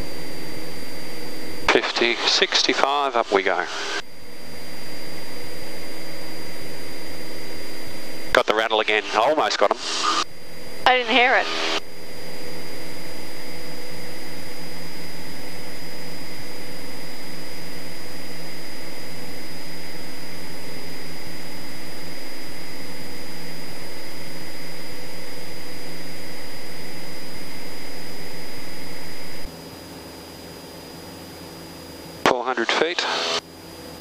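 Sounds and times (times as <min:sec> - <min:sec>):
propeller plane engine droning: 0:00.0 - 0:34.0
thin high whine: 0:00.0 - 0:34.0.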